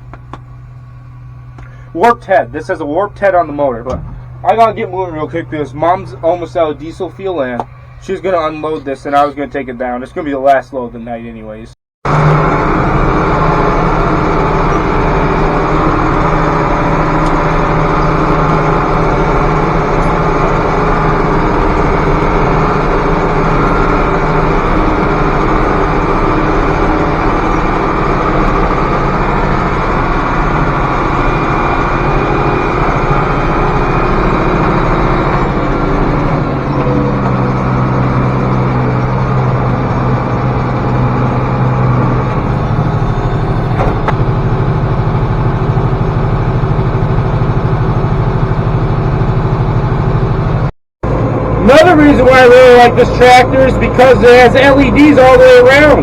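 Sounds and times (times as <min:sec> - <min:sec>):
deeper drone: 0:00.0 - 0:11.2, 0:12.0 - 0:56.0
tractor diesel engine running: 0:00.0 - 0:56.0.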